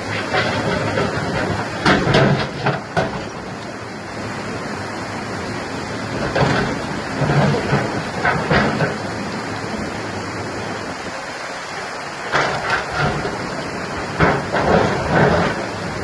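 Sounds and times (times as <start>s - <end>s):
excavator rumble: 0.0s - 16.0s.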